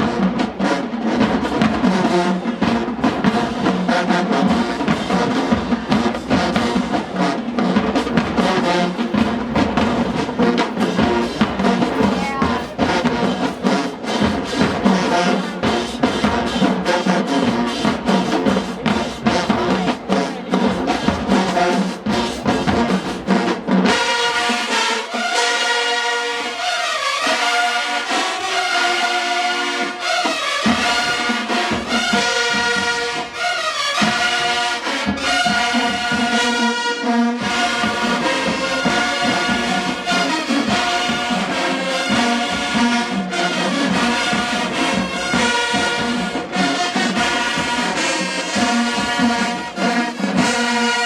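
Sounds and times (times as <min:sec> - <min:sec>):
drumline beating: 0:00.0 - 0:51.0
marching band playing: 0:00.0 - 0:51.0.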